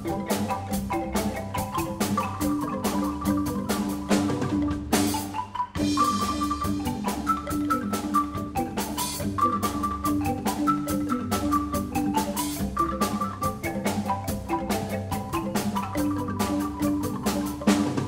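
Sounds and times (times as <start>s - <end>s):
mallet percussion tune over beat: 0.0s - 18.0s.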